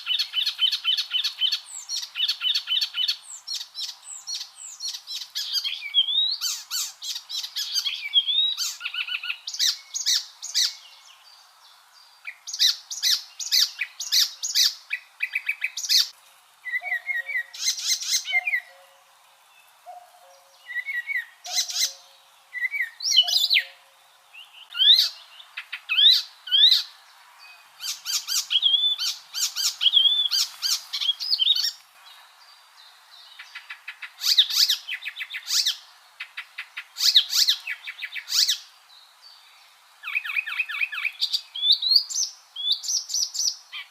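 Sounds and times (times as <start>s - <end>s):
warbler singing: 0.0s - 43.9s.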